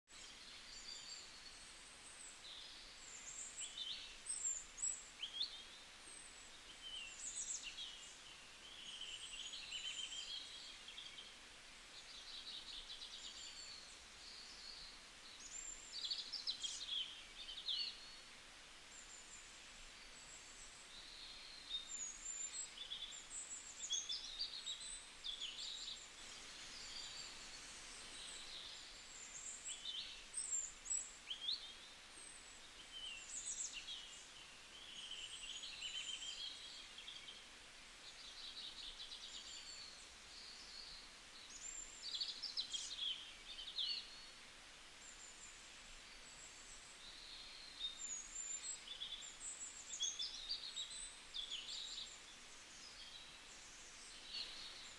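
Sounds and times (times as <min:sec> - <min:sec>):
faint steady hiss: 0:00.1 - 0:54.9.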